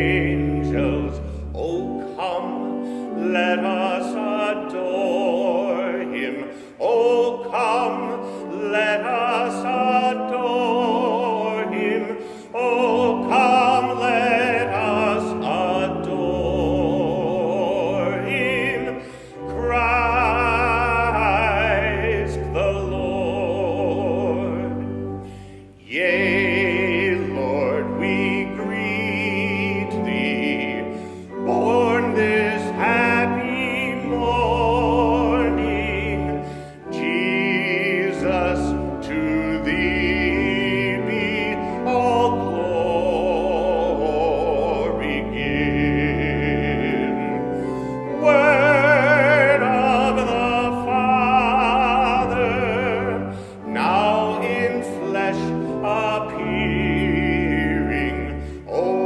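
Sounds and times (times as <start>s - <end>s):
instrumental accompaniment: 0.0s - 59.0s
operatic singing with vibrato: 0.0s - 59.0s.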